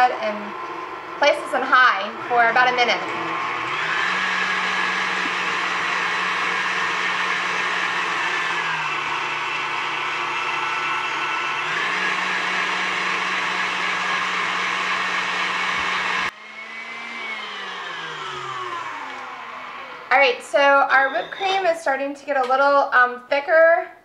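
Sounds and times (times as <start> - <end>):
stand mixer motor hum: 0.0 - 21.7.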